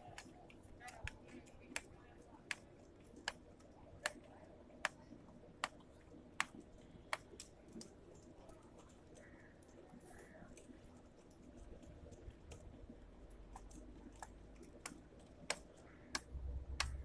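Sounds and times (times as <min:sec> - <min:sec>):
sharp evenly spaced clicks: 0:00.0 - 0:09.8, 0:10.5 - 0:17.0
faint background noise: 0:00.0 - 0:17.0.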